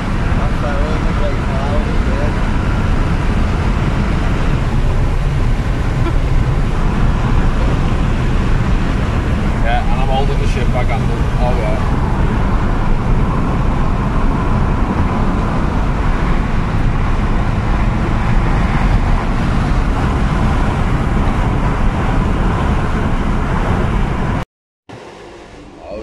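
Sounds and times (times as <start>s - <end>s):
wind buffeting microphone: 0.0s - 24.4s
car road noise inside cabin: 0.0s - 26.0s.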